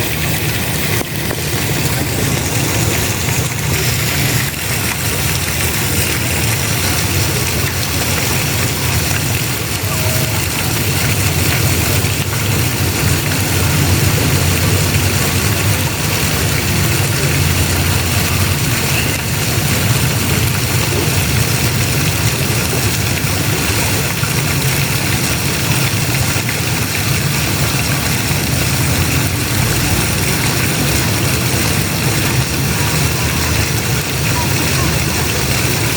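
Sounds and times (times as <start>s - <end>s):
falling water spraying: 0.0s - 35.9s.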